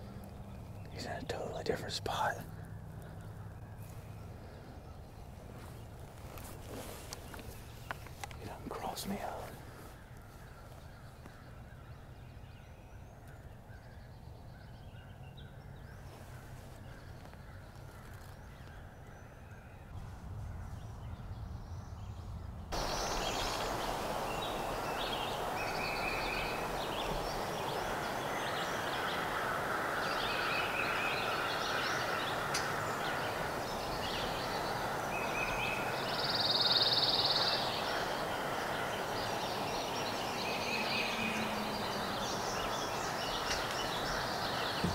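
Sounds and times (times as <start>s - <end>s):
background hiss: 0.0s - 3.2s, 3.8s - 12.7s, 20.0s - 44.9s
bird calls: 0.0s - 44.9s.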